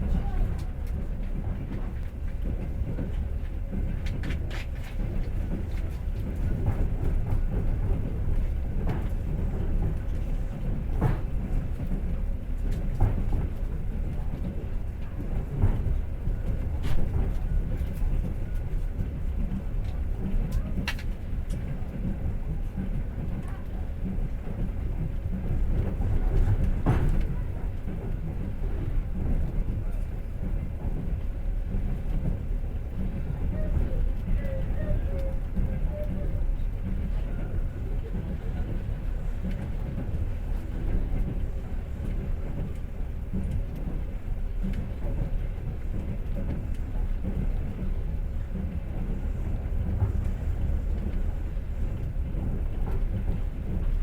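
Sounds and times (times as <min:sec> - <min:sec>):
train carriage rattle: 0:00.0 - 0:54.0
train wheels rumbling on rails: 0:00.0 - 0:54.0.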